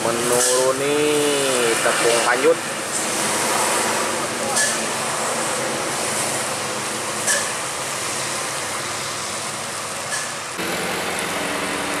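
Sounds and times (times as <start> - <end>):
truck passing: 0.0 - 12.0
tyres on wet road: 0.0 - 12.0.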